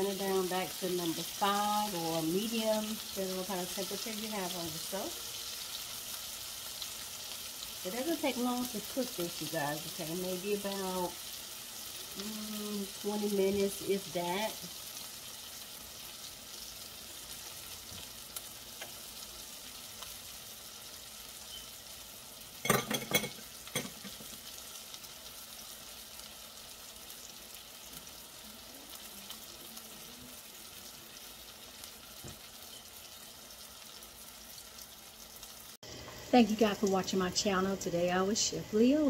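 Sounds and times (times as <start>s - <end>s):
burger patties sizzling in pan: 0.0s - 39.0s.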